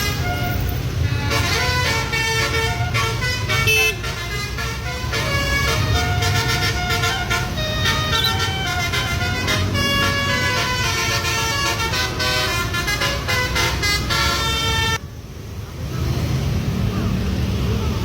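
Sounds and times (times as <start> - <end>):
multi-tone air horn melody: 0.0 - 15.0
engine rumbling: 0.0 - 18.0.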